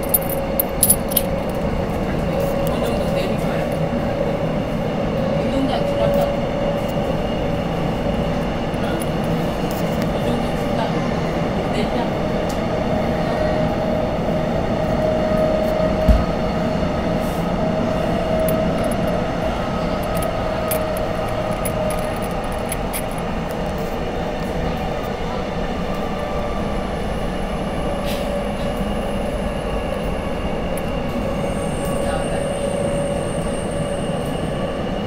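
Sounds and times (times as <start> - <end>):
train carriage rumble: 0.0 - 35.0.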